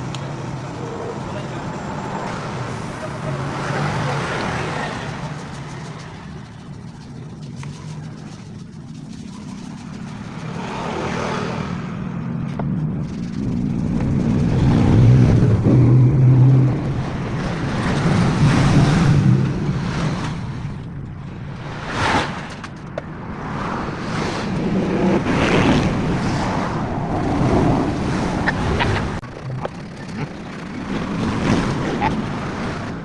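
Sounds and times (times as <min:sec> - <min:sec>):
road noise: 0:00.0 - 0:33.0
vehicle engine running: 0:00.0 - 0:33.0.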